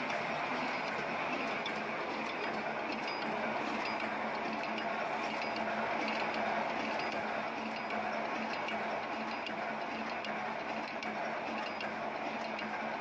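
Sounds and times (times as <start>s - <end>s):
low machine hum: 0.0s - 13.0s
welding machine clatter: 0.0s - 13.0s.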